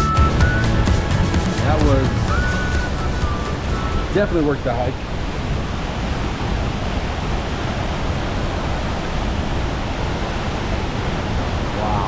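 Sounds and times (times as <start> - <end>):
large waterfall rushing: 0.0 - 12.0.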